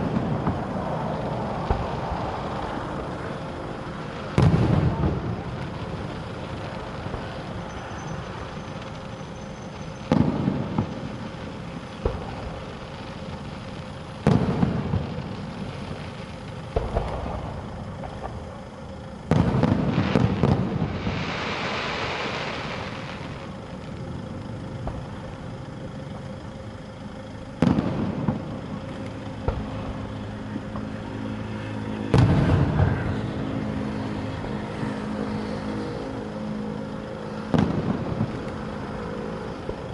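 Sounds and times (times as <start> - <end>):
fireworks bangs: 0.0 - 24.0, 27.4 - 31.0, 32.0 - 39.9
fireworks hissing crackle: 0.0 - 39.9.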